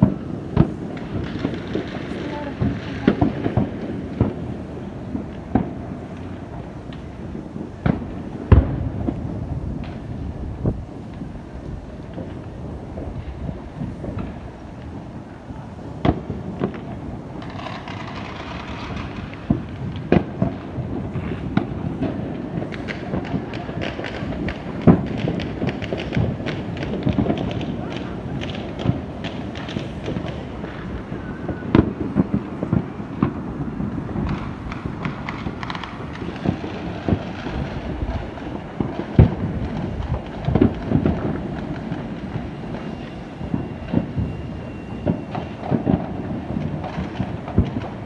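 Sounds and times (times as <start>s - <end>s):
fireworks bangs: 0.0s - 48.0s
fireworks rumbling and crackling: 0.0s - 48.0s.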